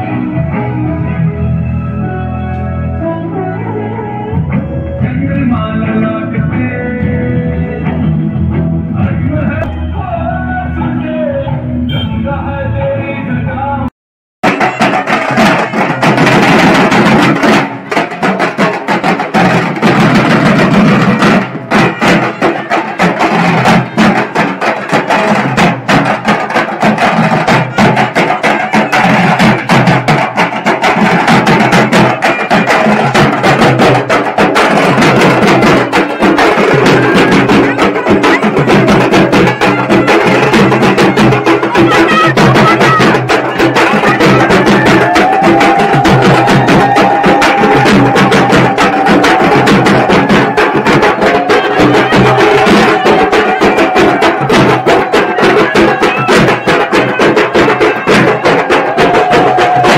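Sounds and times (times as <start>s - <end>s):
drums played with sticks: 4.3s - 11.4s, 14.4s - 59.9s.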